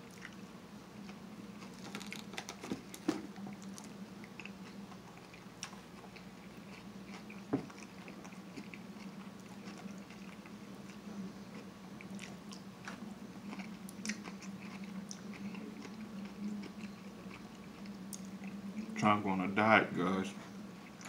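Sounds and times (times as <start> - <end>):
person chewing food: 0.0 - 0.4, 1.0 - 19.0
steady low hum: 0.0 - 21.0.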